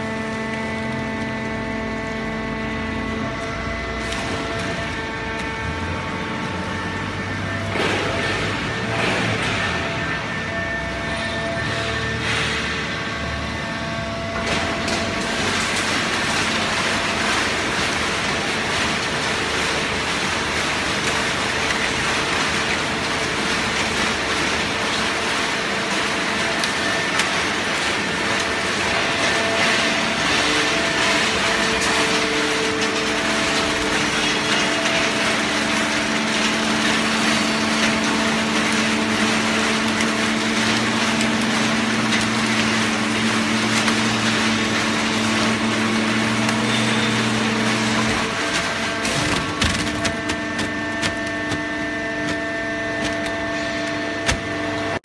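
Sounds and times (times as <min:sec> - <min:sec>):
baler mechanical noise: 0:00.0 - 0:55.0
hydraulic unit hum: 0:00.0 - 0:55.0.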